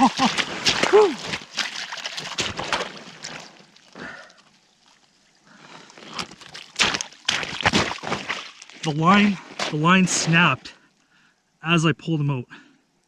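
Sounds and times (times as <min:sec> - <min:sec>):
water splashing: 0:00.0 - 0:10.5.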